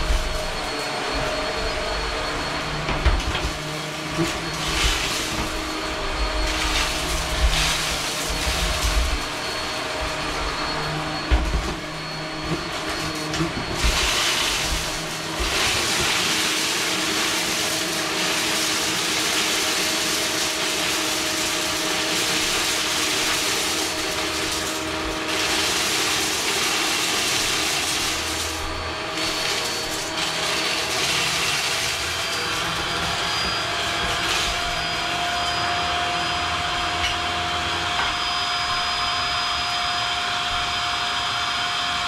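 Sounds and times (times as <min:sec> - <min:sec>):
vacuum cleaner running on carpet: 0:00.0 - 0:42.0.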